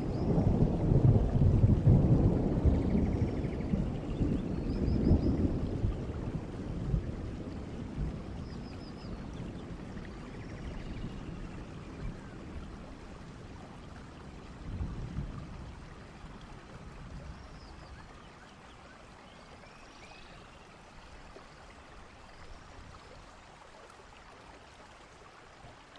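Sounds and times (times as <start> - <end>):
rain and running water hiss: 0.0 - 25.9.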